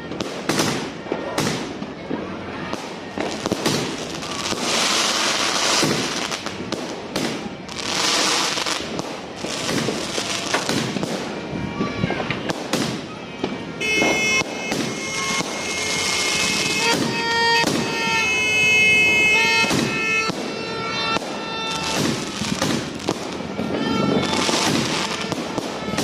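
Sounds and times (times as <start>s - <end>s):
crackling fireworks shells: 0.0s - 26.0s
fireworks bangs: 0.0s - 26.0s.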